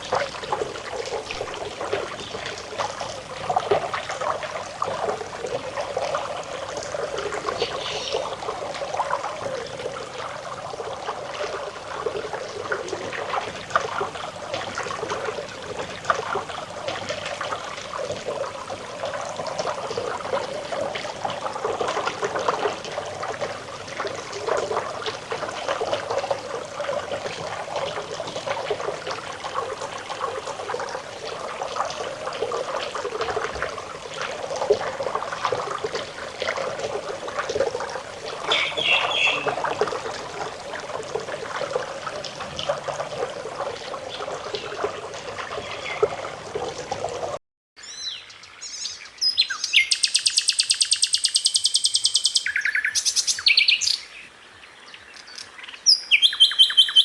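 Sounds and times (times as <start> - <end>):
water trickling and gurgling: 0.0 - 57.0.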